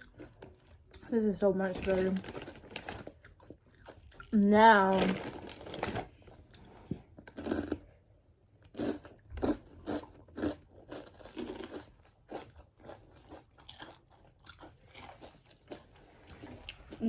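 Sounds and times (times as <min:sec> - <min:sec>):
crunchy chips being chewed: 0:00.0 - 0:01.1, 0:01.8 - 0:08.0, 0:08.6 - 0:17.0.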